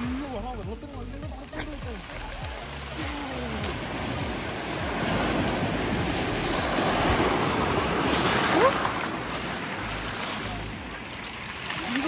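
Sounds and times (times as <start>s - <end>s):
waves washing up pebble beach: 0.0s - 12.0s.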